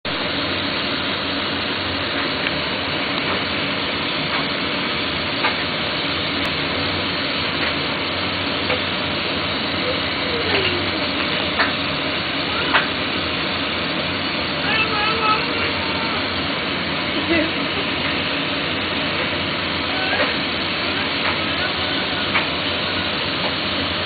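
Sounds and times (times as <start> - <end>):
torch flame hissing: 0.1 - 24.0.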